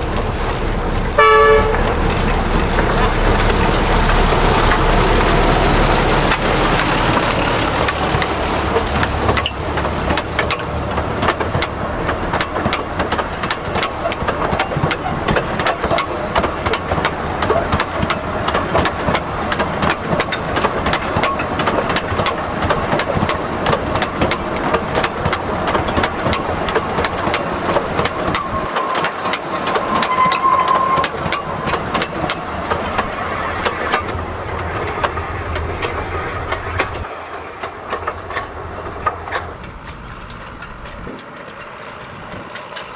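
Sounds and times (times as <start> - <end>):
train wheels clattering on track: 0.0 - 42.9.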